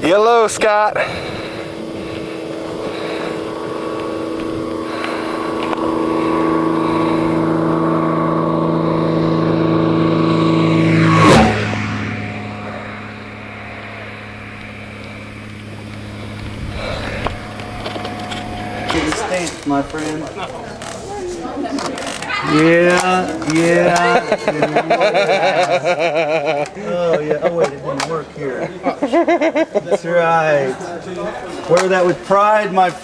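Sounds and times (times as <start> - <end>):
propeller plane fly-by: 0.0 - 26.8.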